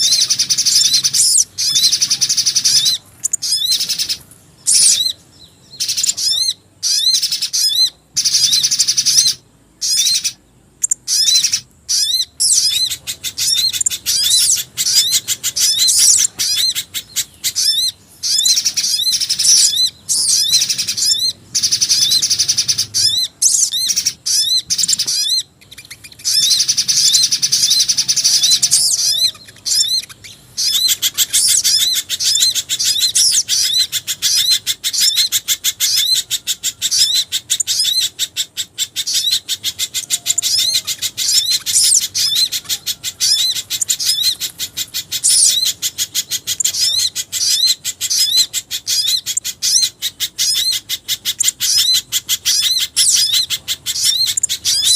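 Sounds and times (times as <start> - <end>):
songbirds chirping trills: 0.0 - 54.9.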